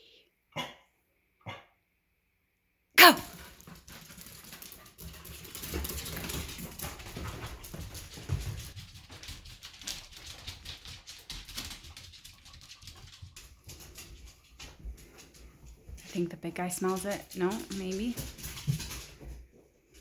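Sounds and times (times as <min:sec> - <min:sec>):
dog paws clicking and pattering: 0:03.2 - 0:20.0.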